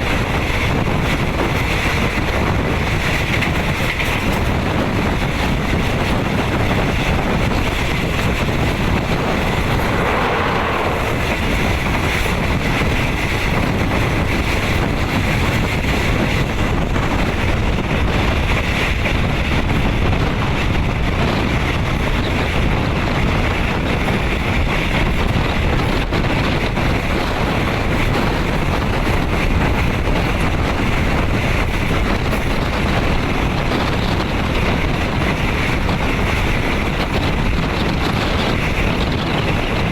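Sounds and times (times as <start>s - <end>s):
train wheels rolling: 0.0s - 39.9s
wind buffeting microphone: 0.0s - 39.9s
wind rushing: 0.0s - 39.9s.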